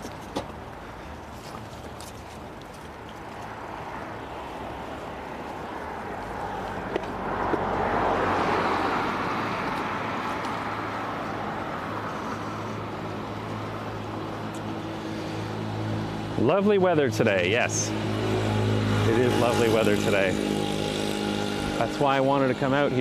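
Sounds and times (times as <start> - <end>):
road vehicle passing: 0.0 - 23.0.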